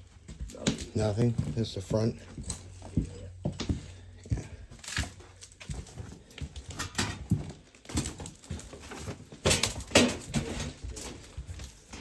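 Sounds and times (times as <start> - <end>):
footsteps crunching on debris: 0.0 - 12.0.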